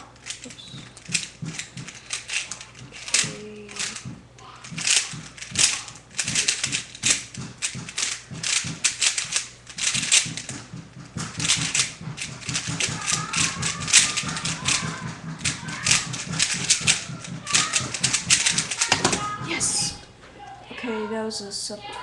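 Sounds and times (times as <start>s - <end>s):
plastic puzzle cube clicking: 0.2s - 10.6s, 11.2s - 19.2s.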